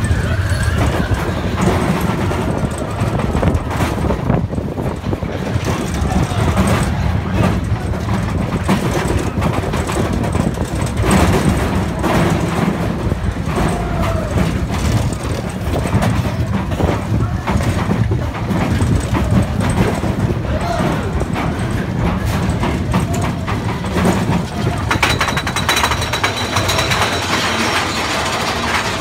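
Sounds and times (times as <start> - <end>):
cars rattling: 0.0 - 29.0
roller coaster rumbling on track: 0.0 - 29.0.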